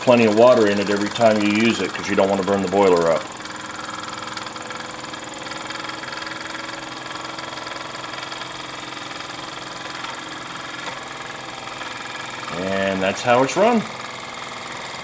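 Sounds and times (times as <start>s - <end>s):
toy steam engine whirring: 0.0s - 15.0s.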